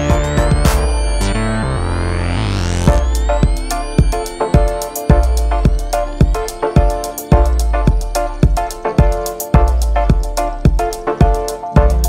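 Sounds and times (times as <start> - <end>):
bass drum beat: 0.0 - 1.5, 2.9 - 12.0
sustained melodic tones: 0.0 - 12.0.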